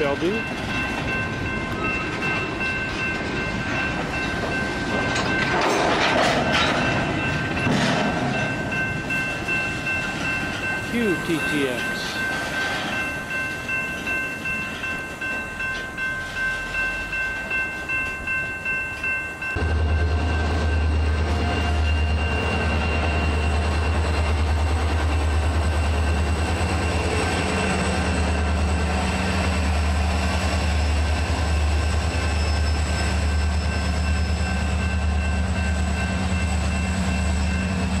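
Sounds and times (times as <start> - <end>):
freight train rumble: 0.0 - 38.0
locomotive engine: 0.0 - 38.0.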